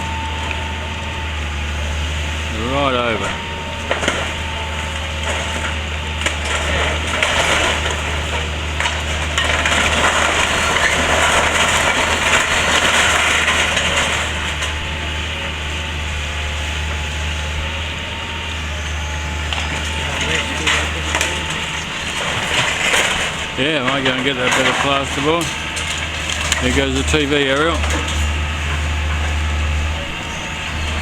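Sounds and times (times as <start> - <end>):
excavator diesel engine running: 0.0 - 31.0
timber cracking and splintering: 2.5 - 16.5, 18.9 - 30.3.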